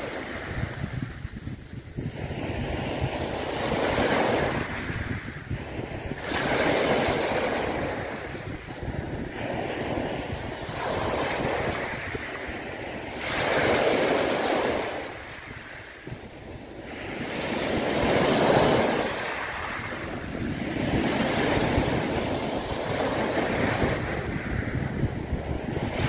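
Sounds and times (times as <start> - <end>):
ocean waves surging: 0.0 - 26.0.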